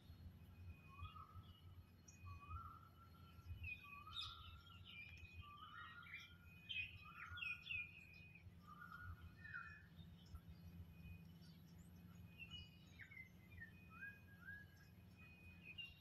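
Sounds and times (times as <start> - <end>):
faint birdsong: 0.0 - 16.0
low steady hum: 0.0 - 16.0.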